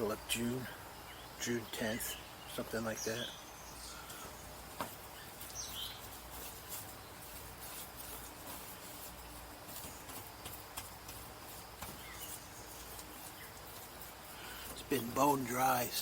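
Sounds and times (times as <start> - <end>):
bird chirp: 0.3 - 10.3, 11.8 - 16.0.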